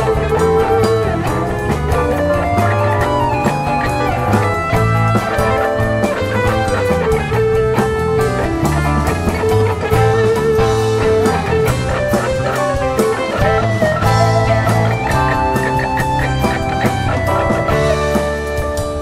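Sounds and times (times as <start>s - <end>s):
bass guitar: 0.0s - 19.0s
drums: 0.0s - 19.0s
electric guitar lead: 0.0s - 19.0s.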